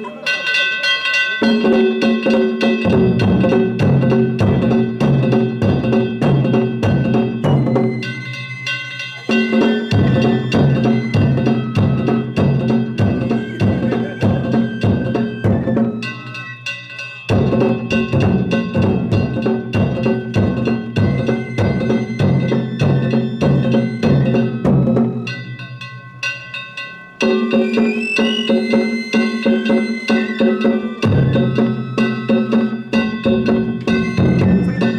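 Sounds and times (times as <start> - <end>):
taiko drums beating: 0.0 - 26.6, 27.2 - 34.9
gongs clanging: 0.0 - 34.9.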